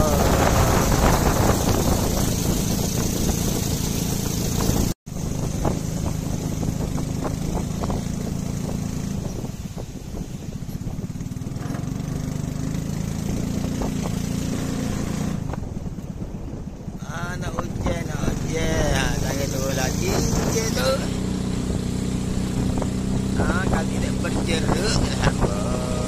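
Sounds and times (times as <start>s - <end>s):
small boat engine running: 0.0s - 15.3s, 18.5s - 26.0s
rushing water: 0.0s - 16.2s, 16.9s - 26.0s
rushing wind: 0.0s - 26.0s.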